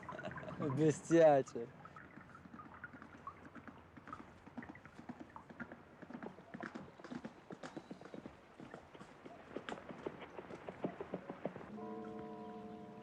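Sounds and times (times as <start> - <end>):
horse hoofbeats clip-clop: 1.8 - 12.7.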